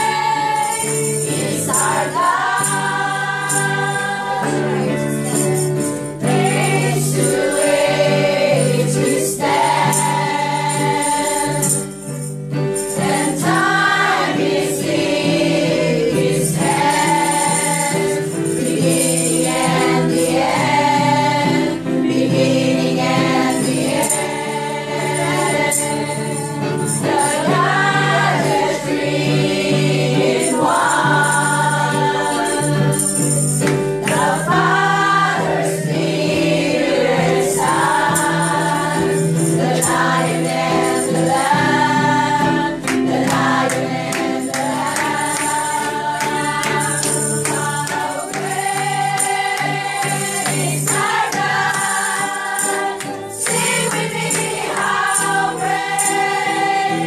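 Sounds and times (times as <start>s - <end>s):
voices singing along: 0.0s - 11.8s, 12.8s - 57.0s
instrumental accompaniment: 0.0s - 57.0s
tambourine shaking: 0.0s - 57.0s.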